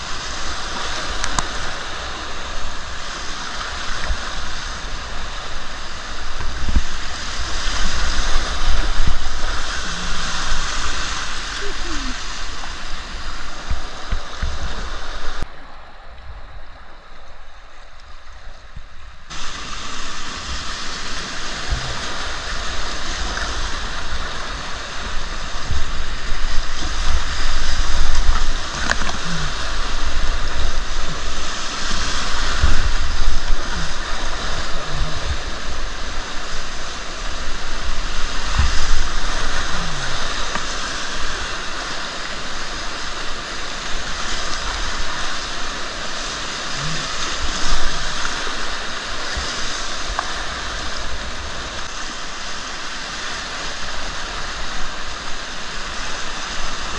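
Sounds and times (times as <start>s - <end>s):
river whitewater rushing: 0.0s - 16.1s, 19.1s - 56.9s.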